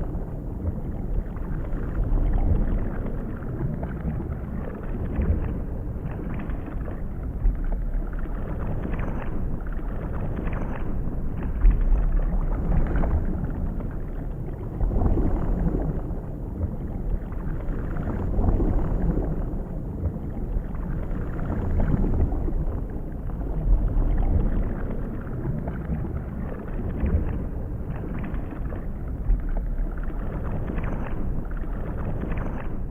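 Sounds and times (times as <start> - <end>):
muffled underwater rumbling: 0.0 - 32.9.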